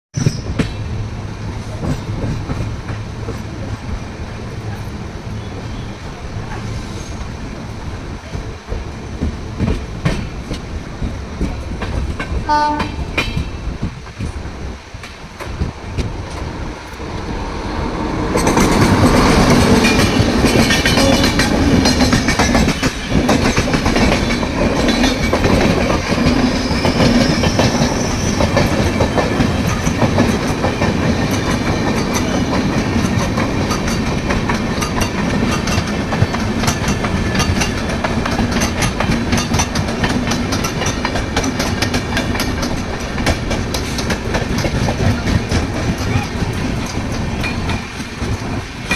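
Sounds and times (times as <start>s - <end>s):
train rumbling: 0.1s - 48.9s
wheels clacking over rails: 8.2s - 48.9s.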